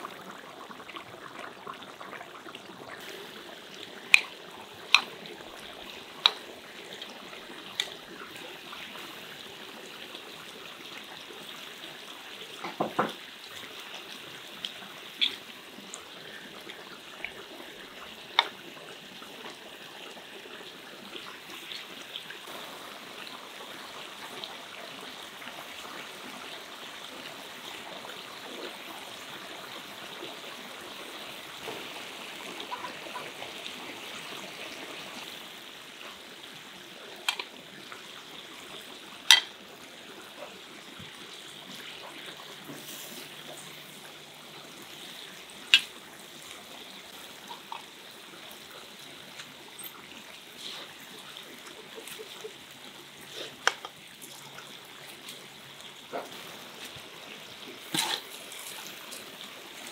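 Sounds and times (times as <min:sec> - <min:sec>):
broth boiling with bubbling hiss: 0:00.0 - 0:59.9.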